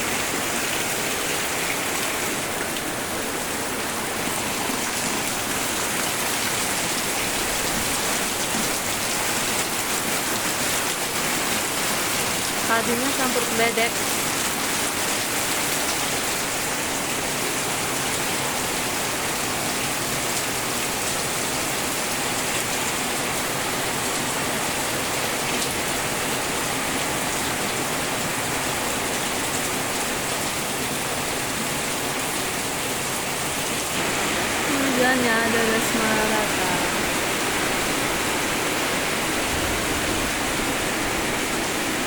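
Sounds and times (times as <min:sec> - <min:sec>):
heavy rain: 0:00.0 - 0:42.0
wind: 0:00.0 - 0:42.0.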